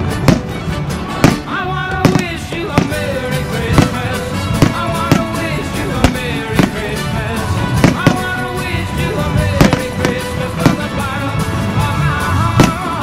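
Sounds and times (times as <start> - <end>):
fireworks bangs: 0.0 - 13.0
music playing: 0.0 - 13.0.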